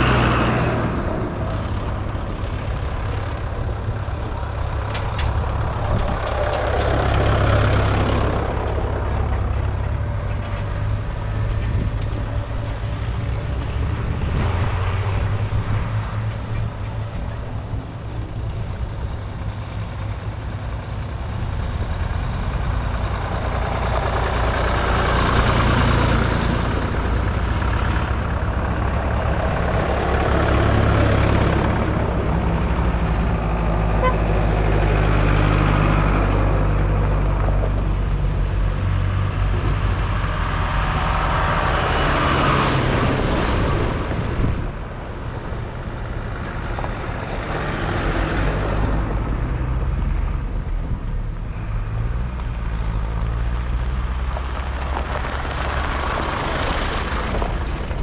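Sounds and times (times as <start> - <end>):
tractor engines passing: 0.0 - 58.0.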